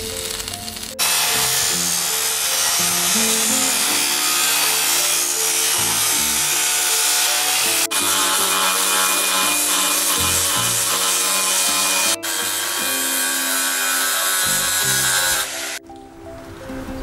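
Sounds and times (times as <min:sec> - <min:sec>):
background music: 0:00.0 - 0:17.0
power tool grinding metal: 0:00.2 - 0:15.8.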